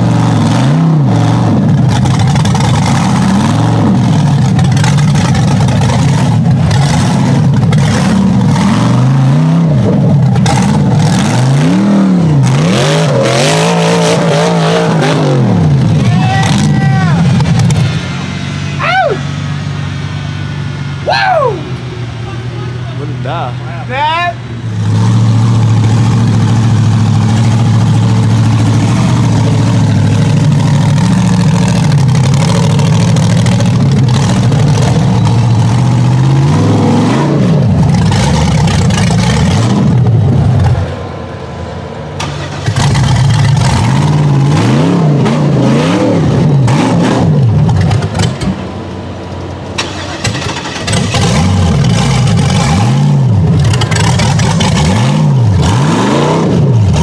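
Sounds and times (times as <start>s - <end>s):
engine revving hard: 0.0s - 19.3s, 24.7s - 40.9s, 42.2s - 48.5s, 49.8s - 57.0s.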